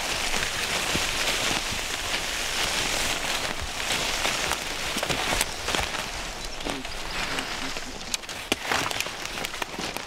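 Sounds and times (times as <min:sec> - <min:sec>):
log scraping through leaves: 0:00.0 - 0:10.0
small crackles: 0:00.0 - 0:10.0.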